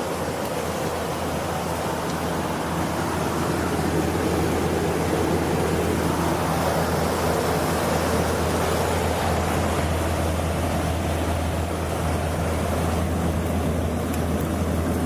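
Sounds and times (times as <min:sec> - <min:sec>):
heat pump hum: 0:00.0 - 0:15.0.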